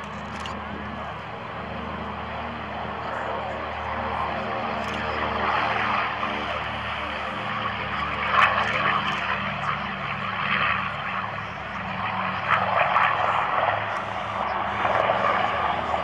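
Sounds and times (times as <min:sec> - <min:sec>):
propeller aircraft engines drone: 0:00.0 - 0:16.0.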